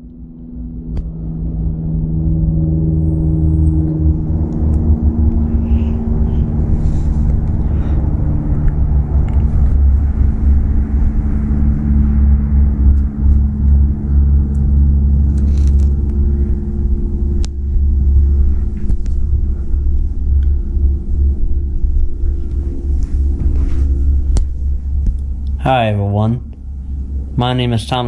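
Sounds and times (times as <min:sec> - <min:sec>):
low motor hum: 0:00.0 - 0:28.0
mechanical rumble: 0:00.0 - 0:28.0.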